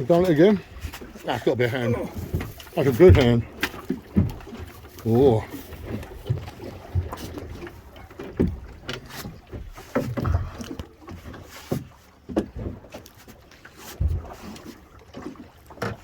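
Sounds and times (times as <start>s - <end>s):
knocks and clicks on a boat: 0.0s - 16.0s.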